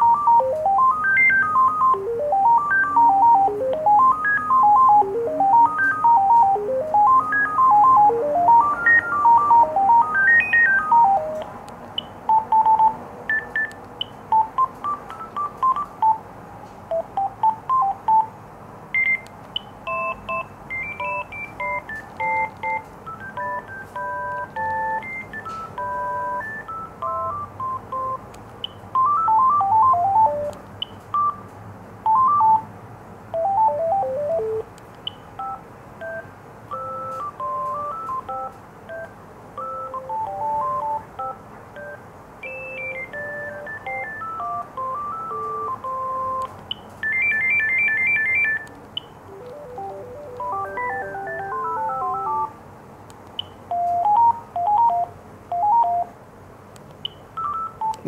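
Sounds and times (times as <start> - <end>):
phone ringtone beep melodies: 0.0 - 16.3, 16.9 - 32.7, 33.4 - 52.6, 53.4 - 56.1, 57.0 - 58.0.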